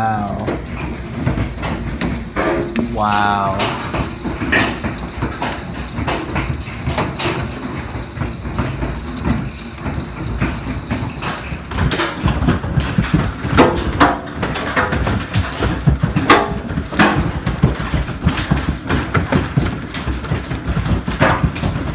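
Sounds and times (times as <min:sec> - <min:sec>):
heavy hail strikes: 0:00.0 - 0:21.9
hail clattering: 0:00.2 - 0:21.9.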